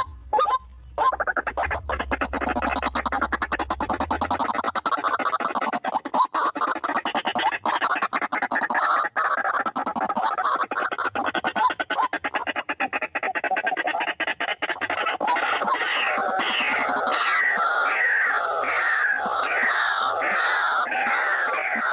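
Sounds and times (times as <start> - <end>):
waterhens calling harshly: 0.0 - 21.9.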